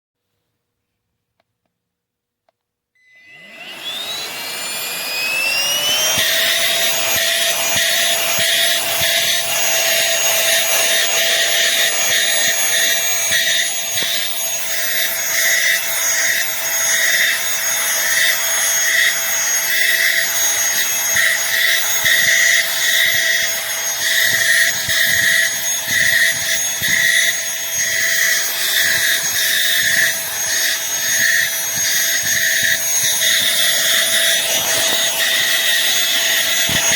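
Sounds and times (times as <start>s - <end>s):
handheld vacuum cleaner whine: 3.0s - 36.9s.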